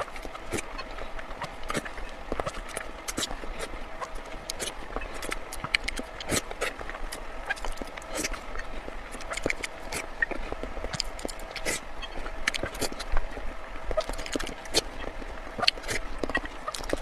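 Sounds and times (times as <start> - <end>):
wet chewing clicks and crunches: 0.0 - 17.0.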